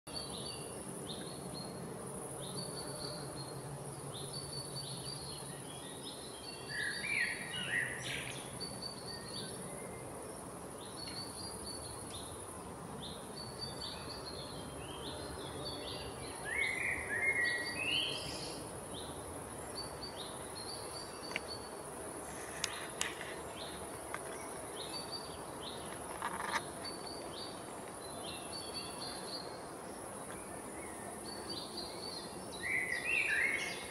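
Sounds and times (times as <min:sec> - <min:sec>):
steady high-pitched hiss: 0:00.1 - 0:33.9.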